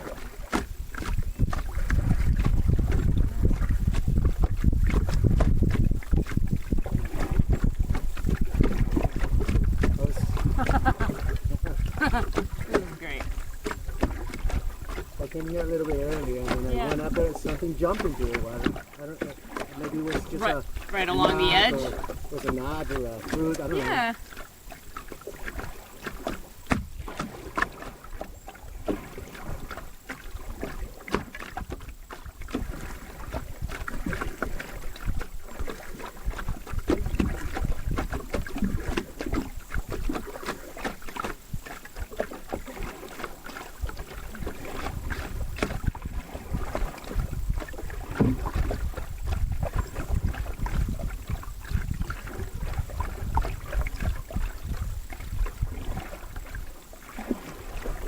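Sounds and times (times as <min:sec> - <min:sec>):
paddle knocking against hull: 0:00.0 - 0:58.0
paddle splashing and dripping: 0:00.0 - 0:58.0
wind rumbling on microphone: 0:00.0 - 0:58.0.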